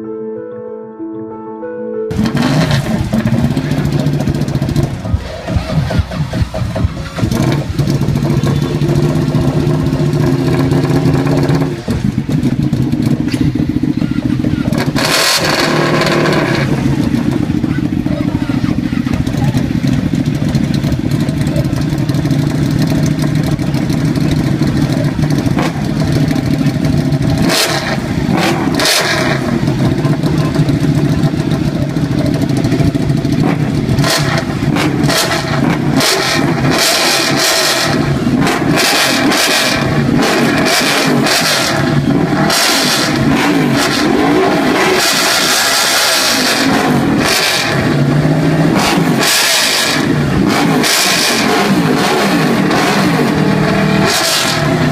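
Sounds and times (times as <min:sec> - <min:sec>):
motorcycle engine idling and revving: 0:02.1 - 0:54.9.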